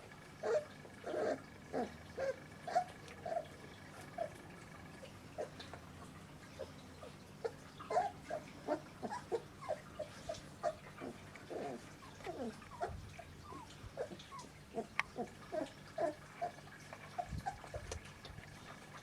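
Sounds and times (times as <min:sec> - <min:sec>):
puppies squeaking and whining: 0:00.0 - 0:18.1.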